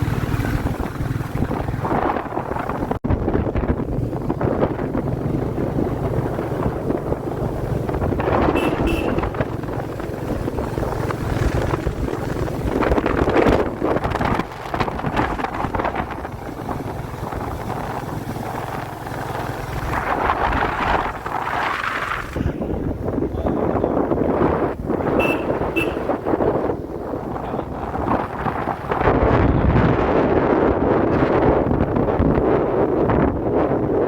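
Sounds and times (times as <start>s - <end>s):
motorcycle engine running: 0.0s - 29.7s
wind buffeting microphone: 0.0s - 34.0s.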